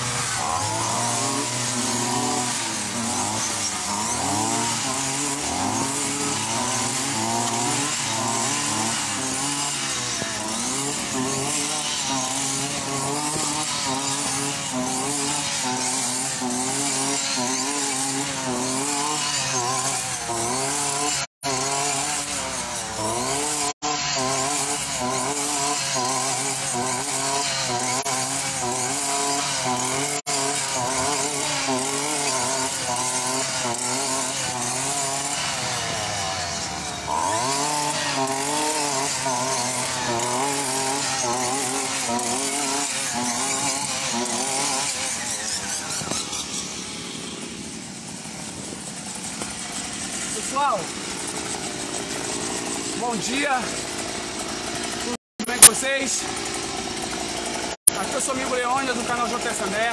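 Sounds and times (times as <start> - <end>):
string trimmer cutting grass: 0.0 - 59.9.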